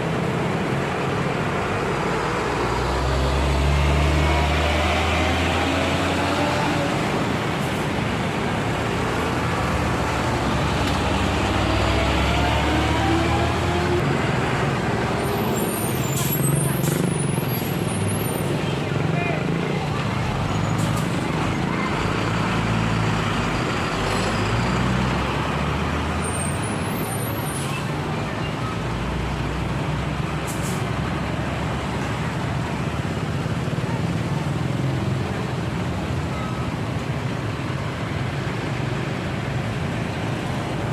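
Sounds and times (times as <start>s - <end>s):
heavy truck diesel engines passing: 0.0s - 40.9s
tyre and road noise: 0.0s - 40.9s.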